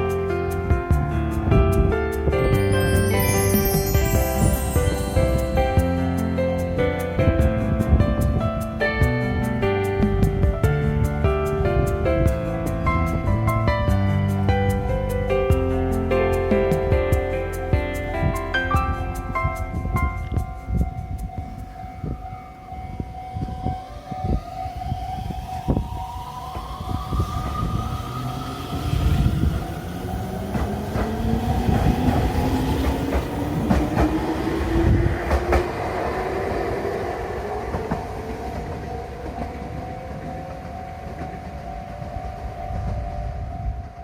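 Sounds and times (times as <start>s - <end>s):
railcar engine whine: 1.4s - 44.0s.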